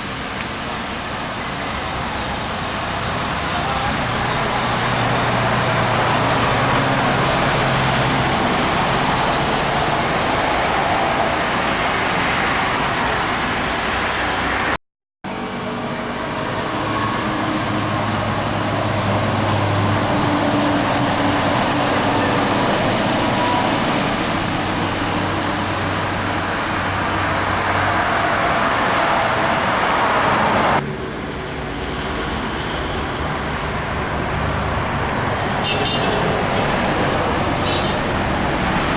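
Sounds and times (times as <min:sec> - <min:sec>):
truck diesel engines droning: 0:00.0 - 0:38.9
tyres hissing on wet road: 0:00.0 - 0:38.9.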